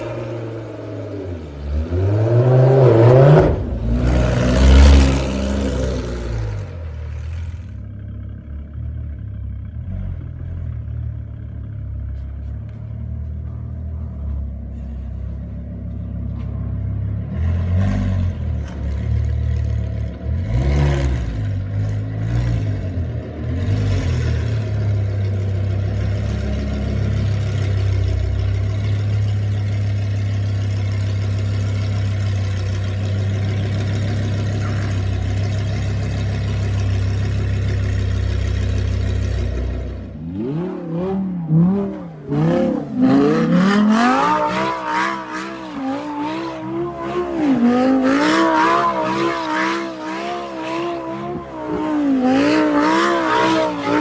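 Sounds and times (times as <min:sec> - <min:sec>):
car engine revving up and down: 0:00.0 - 0:08.1, 0:16.8 - 0:54.0
car engine at high revs: 0:00.0 - 0:11.7, 0:15.9 - 0:54.0.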